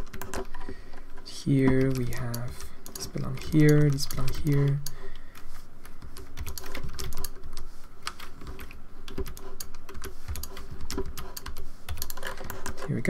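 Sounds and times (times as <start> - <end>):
computer keyboard typing: 0.0 - 13.0.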